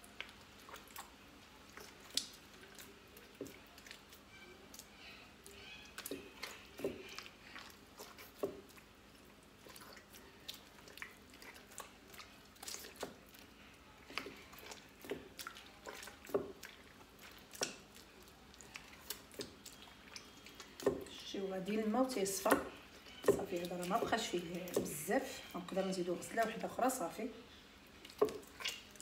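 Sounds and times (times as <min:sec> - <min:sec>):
hands squelching butter in water: 0:00.0 - 0:27.2, 0:27.8 - 0:29.0.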